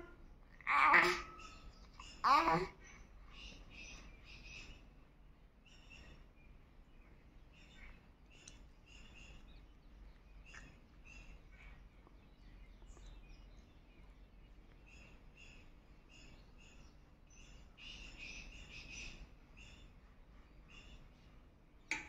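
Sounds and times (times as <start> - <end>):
faint bird chirps: 0.0 - 22.0
low background hum: 0.0 - 22.0.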